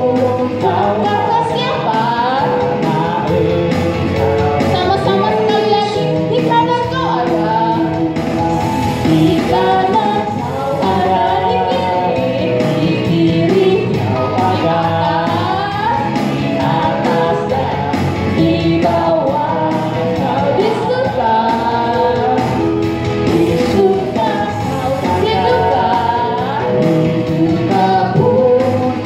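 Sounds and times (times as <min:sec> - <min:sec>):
band backing track: 0:00.0 - 0:29.0
man singing: 0:00.0 - 0:29.0
woman singing: 0:00.0 - 0:29.0.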